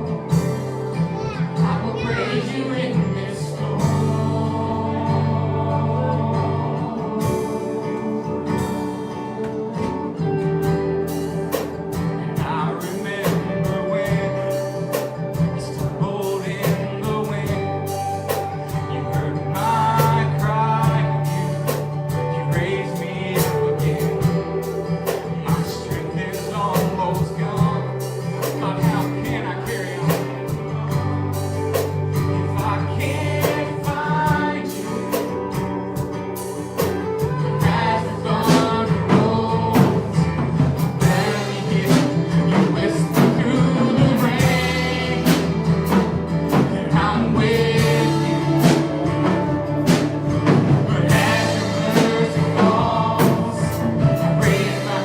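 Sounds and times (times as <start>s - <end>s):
bass: 0.0s - 55.0s
guitar: 0.0s - 55.0s
person singing: 0.0s - 55.0s
steady drum beat: 0.0s - 55.0s.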